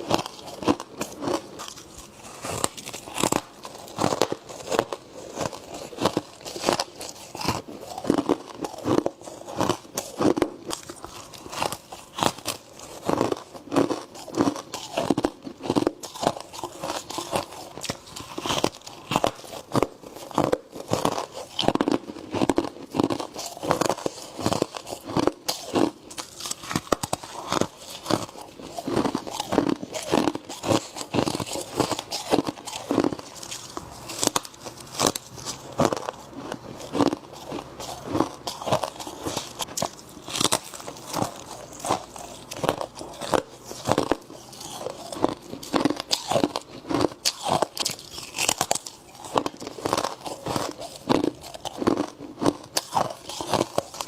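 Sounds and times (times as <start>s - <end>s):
crunching ice chewing: 0.0s - 54.0s.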